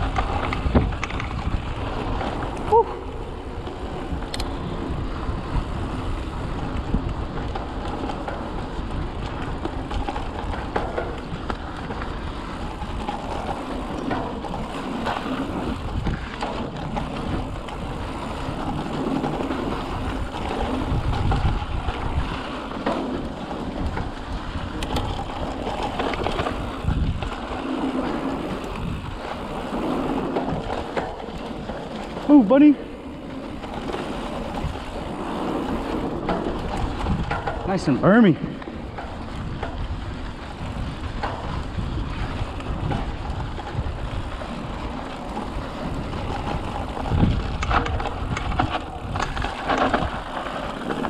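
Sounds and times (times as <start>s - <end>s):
bike tyres rumbling on dirt: 0.0s - 51.0s
wind buffeting microphone: 0.0s - 51.0s.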